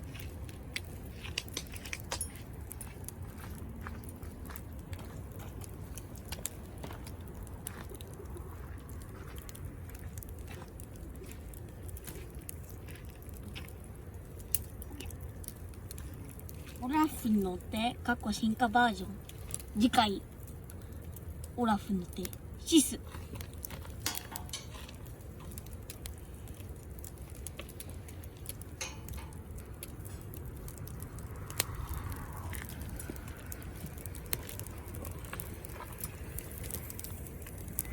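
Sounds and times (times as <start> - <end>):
campfire snaps and pops: 0.0 - 37.9
low fire rumble: 0.0 - 37.9.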